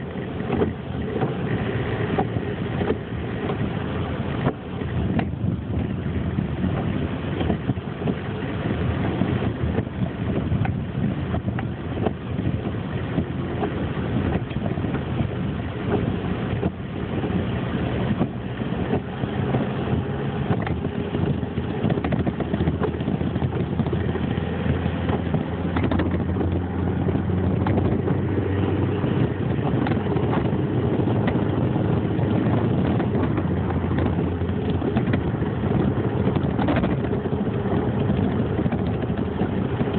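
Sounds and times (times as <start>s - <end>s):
road and wind noise: 0.0s - 39.9s
vehicle engine running: 0.0s - 39.9s.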